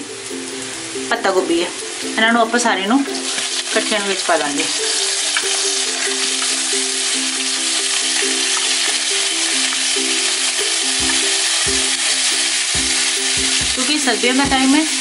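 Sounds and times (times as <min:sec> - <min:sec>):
simple background music melody: 0:00.0 - 0:15.0
vegetables sizzling in hot oil: 0:00.0 - 0:15.0.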